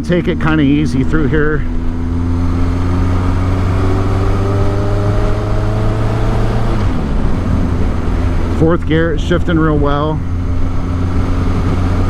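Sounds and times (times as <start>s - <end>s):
motorcycle engine accelerating: 0.0s - 12.0s
wind rush: 0.0s - 12.0s.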